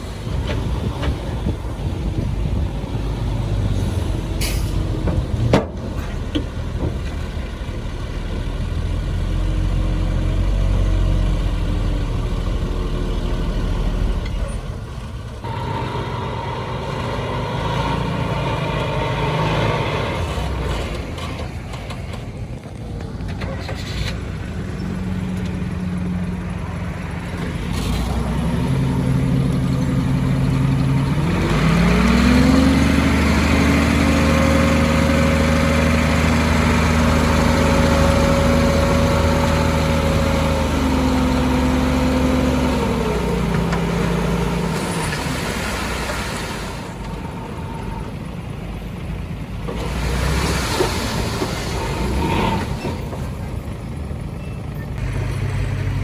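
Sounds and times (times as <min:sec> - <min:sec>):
heavy diesel engine revving: 0:00.0 - 0:22.3, 0:23.6 - 0:56.0.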